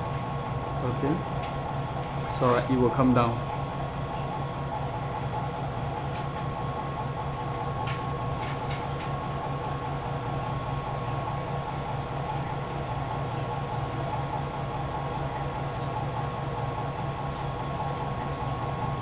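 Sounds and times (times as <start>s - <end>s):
mechanical hum of machine: 0.0s - 19.0s.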